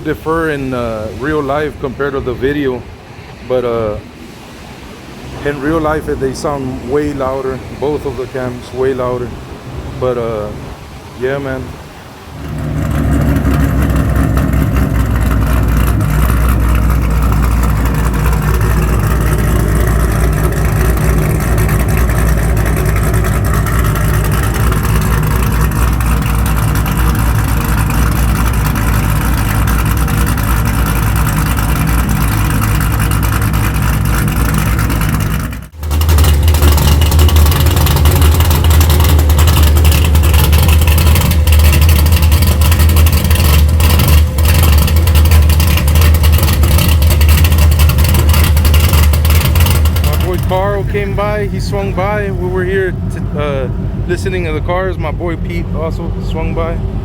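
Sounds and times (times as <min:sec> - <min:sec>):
car engine idling: 0:00.0 - 0:57.0
louder deeper car engine: 0:00.0 - 0:57.0.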